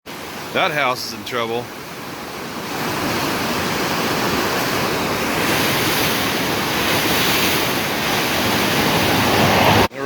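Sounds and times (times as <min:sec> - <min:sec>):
flooded river rushing: 0:00.1 - 0:10.0.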